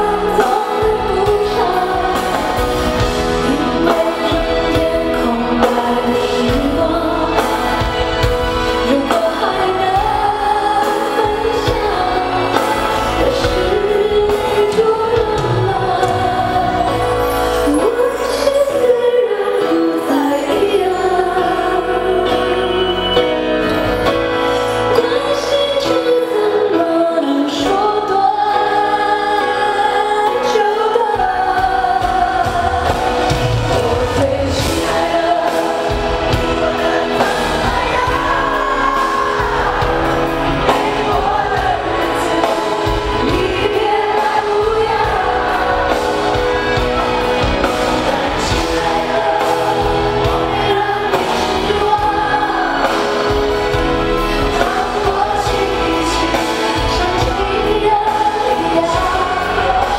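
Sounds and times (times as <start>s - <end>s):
live band with keyboards: 0.0s - 59.9s
woman singing pop ballad: 0.0s - 59.9s.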